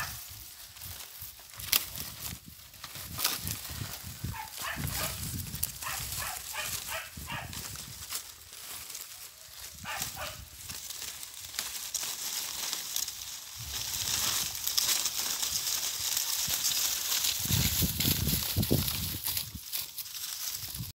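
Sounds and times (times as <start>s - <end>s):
dry cornstalks rustling: 0.0s - 20.9s.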